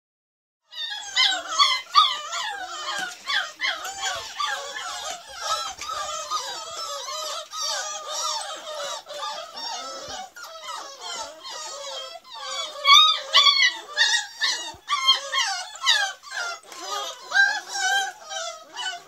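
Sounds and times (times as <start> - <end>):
puppies whining and yelping: 0.7 - 19.0.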